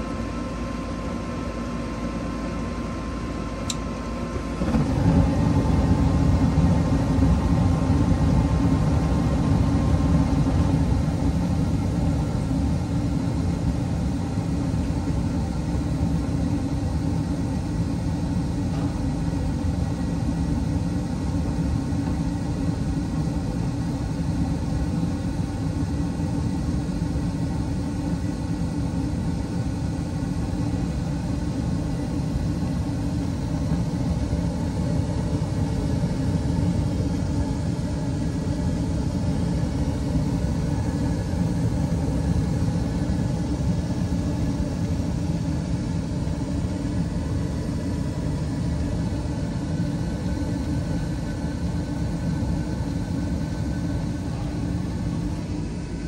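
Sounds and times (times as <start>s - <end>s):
gas furnace rumbling: 0.0s - 56.0s.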